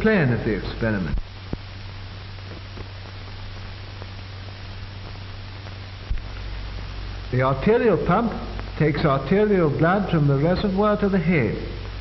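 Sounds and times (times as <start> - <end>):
faint crackles: 0.0 - 12.0
film soundtrack hiss and hum: 0.0 - 12.0.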